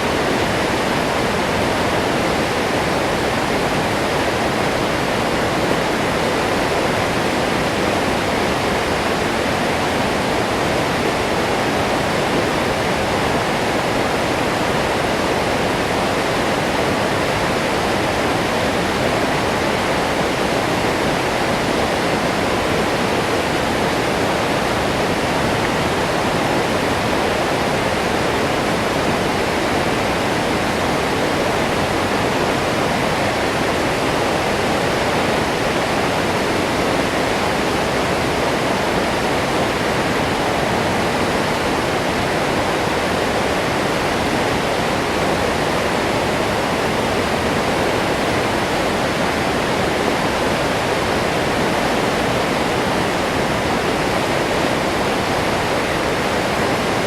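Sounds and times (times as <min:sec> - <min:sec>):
waterfall rushing roar: 0:00.0 - 0:57.0.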